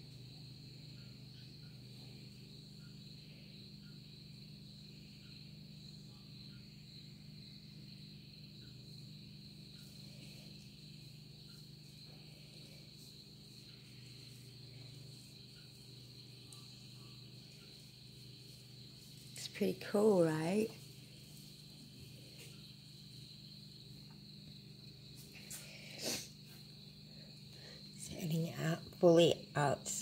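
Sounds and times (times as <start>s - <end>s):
crickets chirring: 0.0s - 30.0s
low steady hum: 0.0s - 30.0s.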